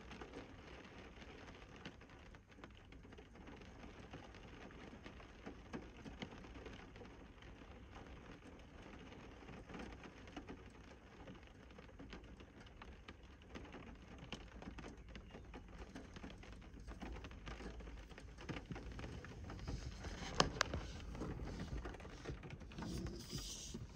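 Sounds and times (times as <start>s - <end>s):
rain pattering: 0.0s - 23.9s.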